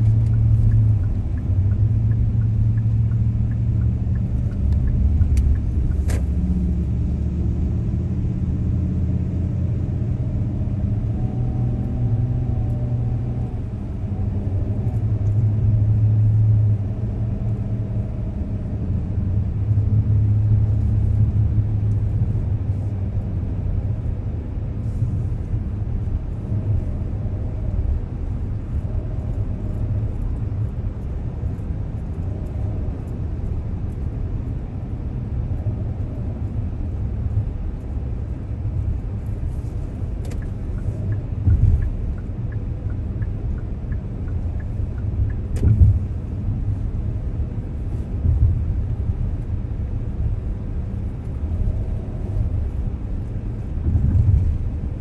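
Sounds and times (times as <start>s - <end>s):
car interior road and engine noise: 0.0s - 55.0s.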